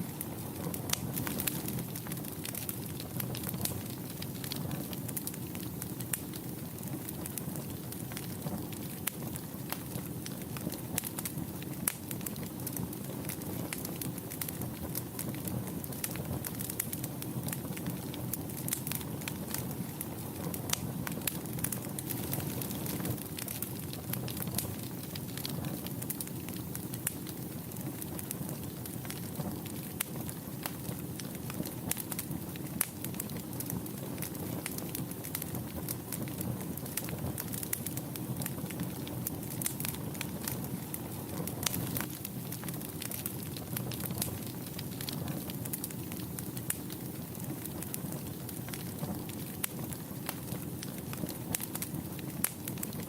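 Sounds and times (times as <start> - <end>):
burning wood crackling: 0.0 - 53.0
wood fire rumbling: 0.0 - 53.0.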